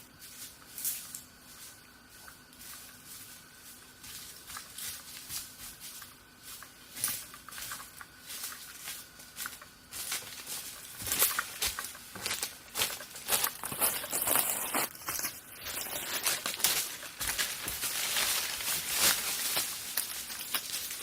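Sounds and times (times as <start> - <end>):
faint high hum: 0.0 - 21.0
rustling and crackling leaves: 0.0 - 21.0.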